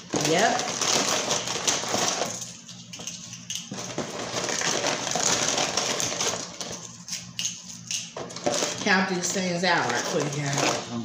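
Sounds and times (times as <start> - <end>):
crackers crinkling and clicking: 0.0 - 10.9.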